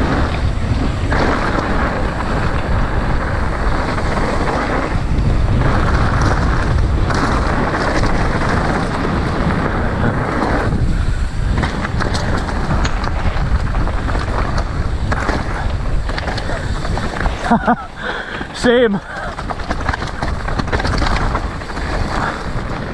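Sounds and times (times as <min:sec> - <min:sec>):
bike clicks and knocks: 0:00.0 - 0:22.9
bike tyre rumble: 0:00.0 - 0:22.9
wind buffeting microphone: 0:00.0 - 0:22.9.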